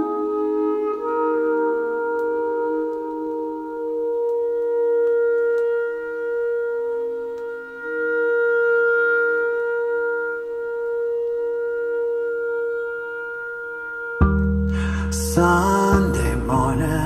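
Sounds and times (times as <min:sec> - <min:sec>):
instrumental music from loudspeakers: 0:00.0 - 0:17.0.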